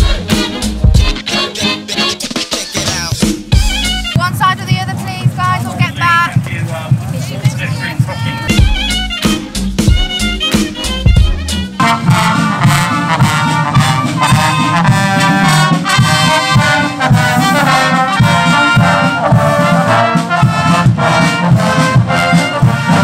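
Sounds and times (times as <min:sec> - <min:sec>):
marching band playing brass march: 0:00.0 - 0:23.0.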